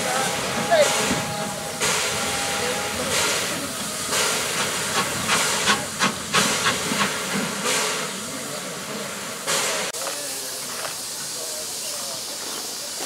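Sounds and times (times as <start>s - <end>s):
steam hissing from drain cocks: 0.0s - 13.0s
steam locomotive exhaust chuffs: 0.0s - 13.0s.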